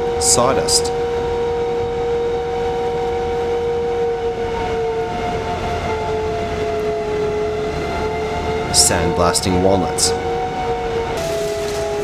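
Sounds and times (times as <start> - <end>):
vacuum whining and sucking air: 0.0 - 12.0.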